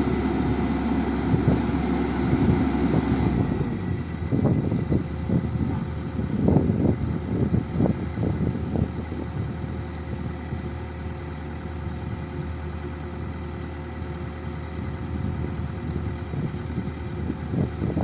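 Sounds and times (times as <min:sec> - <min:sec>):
excavator diesel engine humming: 0:00.0 - 0:18.0.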